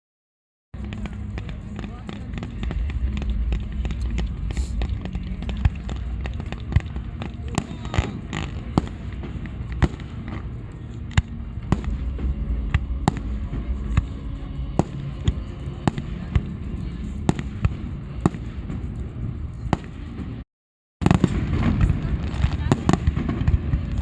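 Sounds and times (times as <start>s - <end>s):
fireworks bangs and cracks: 0.8s - 20.4s, 21.0s - 24.0s
low rumble: 0.8s - 20.4s.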